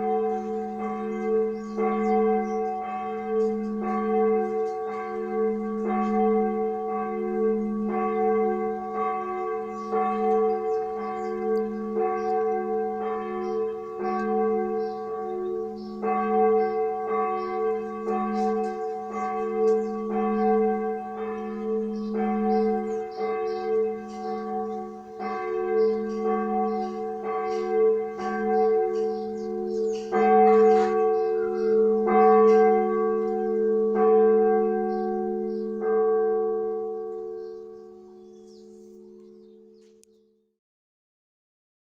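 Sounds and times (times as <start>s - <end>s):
large bell ringing: 0.0s - 40.1s.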